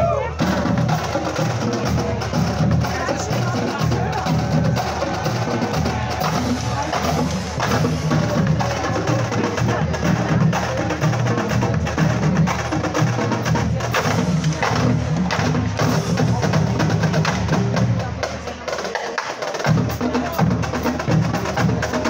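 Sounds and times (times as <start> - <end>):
bass drums: 0.0 - 18.6.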